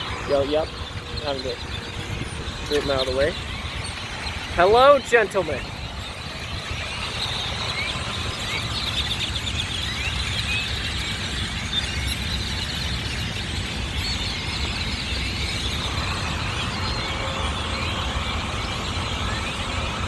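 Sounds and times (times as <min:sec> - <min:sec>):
large flock of birds chirping: 0:00.0 - 0:20.0.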